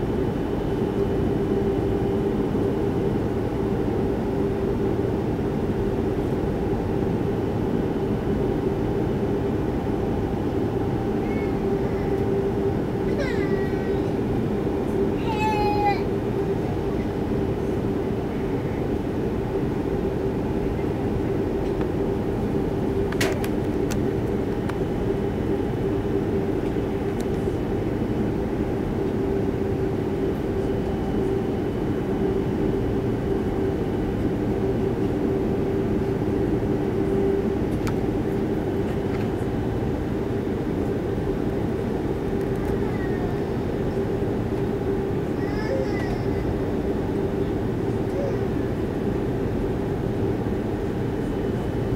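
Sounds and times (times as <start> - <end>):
airplane cabin drone: 0.0 - 51.9.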